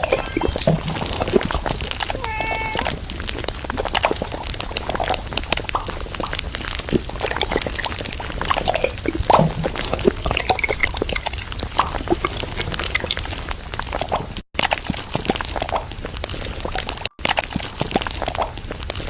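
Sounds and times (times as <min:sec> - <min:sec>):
liquid sounds: 0:00.0 - 0:19.0.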